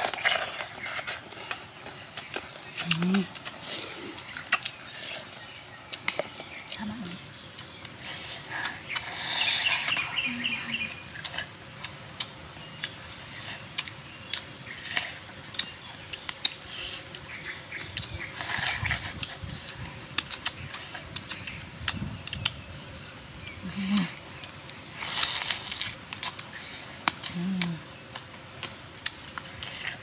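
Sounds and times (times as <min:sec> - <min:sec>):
person chewing crisp food: 0:00.0 - 0:06.8, 0:07.4 - 0:30.0.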